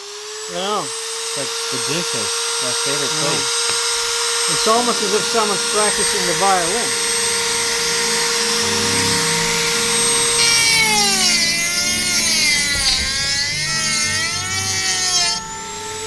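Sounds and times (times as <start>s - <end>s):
rotary tool whining: 0.0s - 16.0s
bit squealing on steel: 0.8s - 16.0s.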